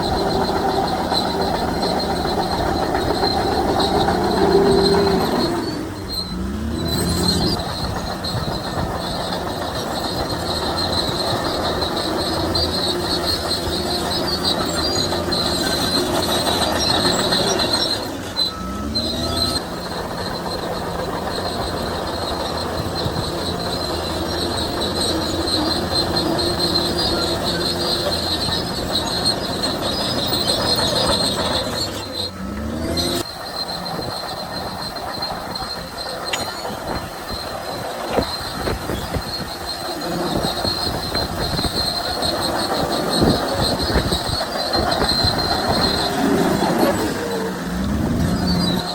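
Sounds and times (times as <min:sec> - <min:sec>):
diesel engine under load: 0:00.0 - 0:48.9
steel tracks squealing and clattering: 0:00.0 - 0:48.9.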